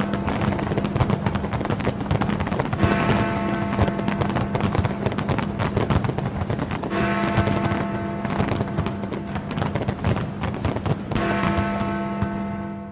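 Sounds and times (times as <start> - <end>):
fireworks bangs and crackling: 0.0 - 12.9.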